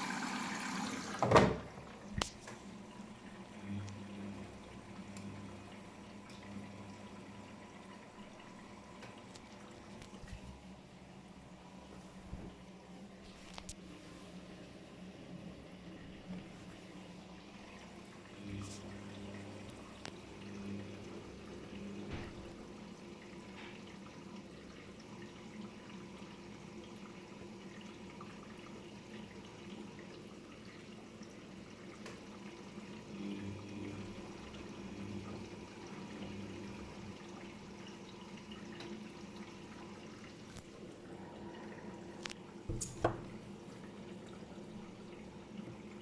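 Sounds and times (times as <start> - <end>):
water sloshing in washing machine: 0.0 - 46.0.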